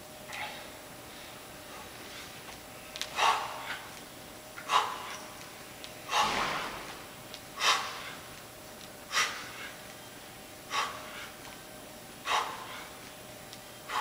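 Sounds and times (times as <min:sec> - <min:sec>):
man breathing hard: 0:00.3 - 0:09.9, 0:10.6 - 0:13.2, 0:13.8 - 0:14.0.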